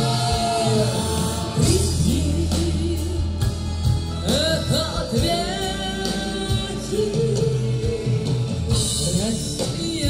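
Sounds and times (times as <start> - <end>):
woman singing with vibrato: 0.0 - 10.0.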